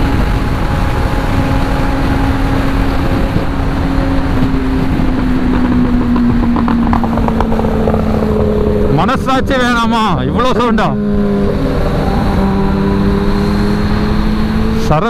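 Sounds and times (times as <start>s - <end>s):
exhaust crackles: 0.0s - 15.0s
motorcycle engine cruising: 0.0s - 15.0s
wind and road noise: 0.0s - 15.0s.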